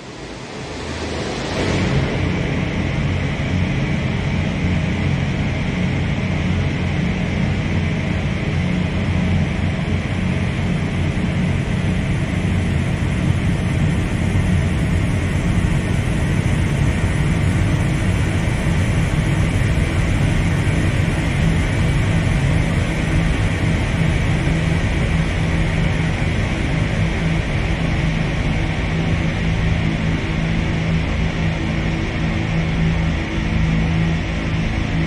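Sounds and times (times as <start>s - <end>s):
dark ambient drone music: 0.0s - 35.0s.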